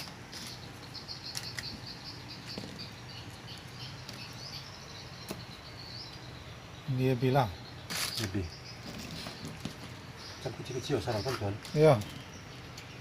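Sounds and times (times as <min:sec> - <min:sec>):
dry nests rustling: 0:00.0 - 0:13.0.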